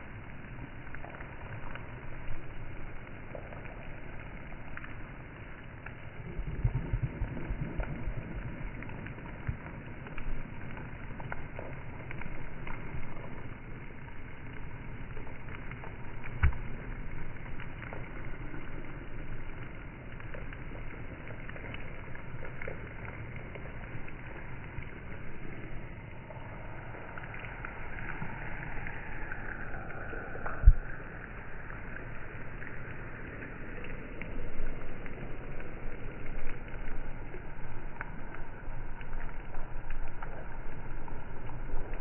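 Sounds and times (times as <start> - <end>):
rain on wet street: 0.0 - 42.0.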